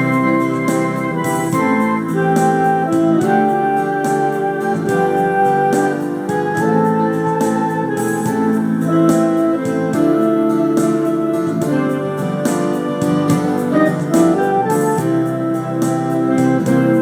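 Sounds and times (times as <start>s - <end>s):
keyboard drum beat: 0.0s - 17.0s
keyboard melody over chords: 0.0s - 17.0s.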